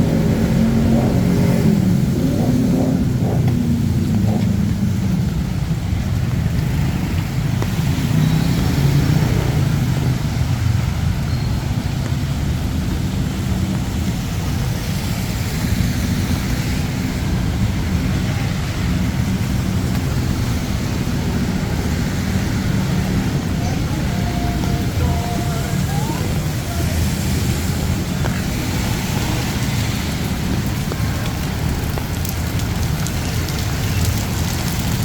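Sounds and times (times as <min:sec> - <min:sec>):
vehicle engines running: 0:00.0 - 0:35.0.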